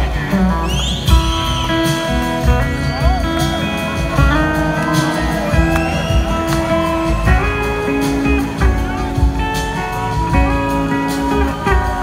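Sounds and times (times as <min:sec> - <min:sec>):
electric guitar: 0:00.0 - 0:12.0
keyboard chords: 0:00.0 - 0:12.0
drum and cymbal hits: 0:01.0 - 0:12.0.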